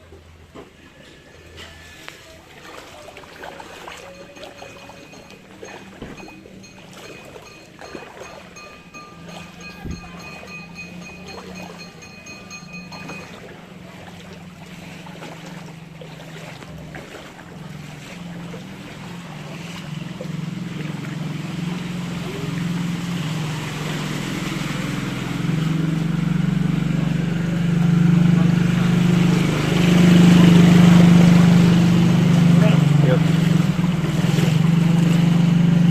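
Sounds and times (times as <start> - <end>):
vehicle engine running: 3.7 - 35.9.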